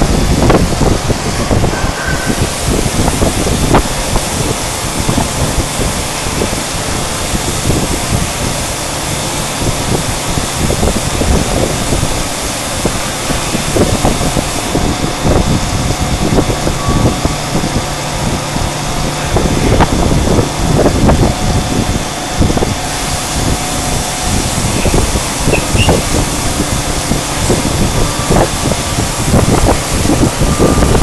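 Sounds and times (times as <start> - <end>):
milling machine chatter: 0.2 - 31.0.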